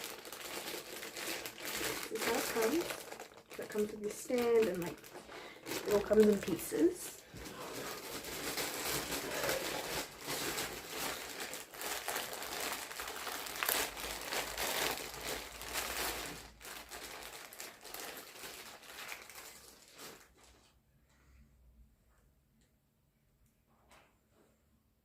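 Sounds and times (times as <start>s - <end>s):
plastic packaging crinkling: 0.0s - 20.8s.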